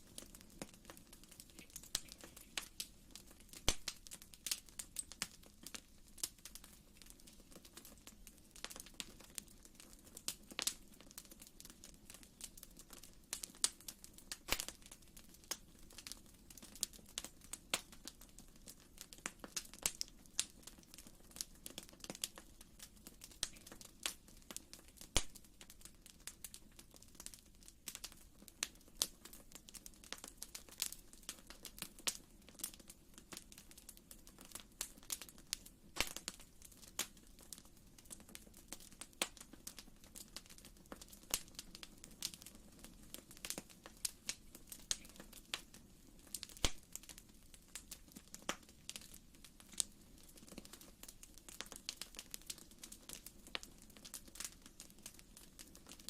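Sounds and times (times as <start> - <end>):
fire crackling and popping: 0.0 - 56.0
low steady fire rumble: 0.0 - 56.0.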